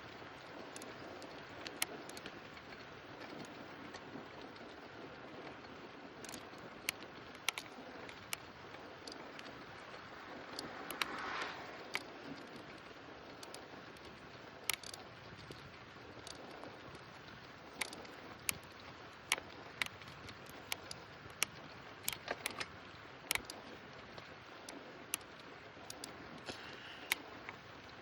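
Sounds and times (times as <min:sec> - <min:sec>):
bicycle clicks and rattles: 0:00.0 - 0:28.0
bicycle tyres and wind hiss: 0:00.0 - 0:28.0.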